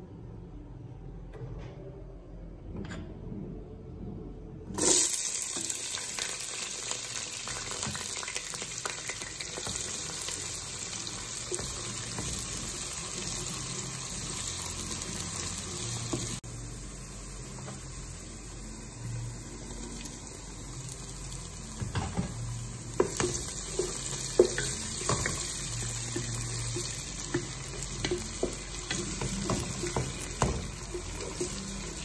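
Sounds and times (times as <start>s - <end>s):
onions sizzling in hot oil: 4.8s - 32.0s.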